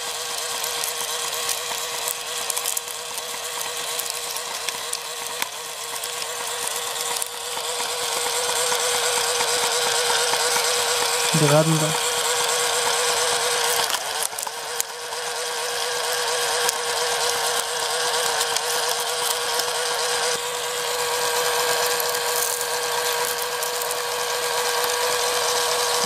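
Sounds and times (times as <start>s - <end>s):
small electric motor whining and rattling: 0.0s - 26.0s.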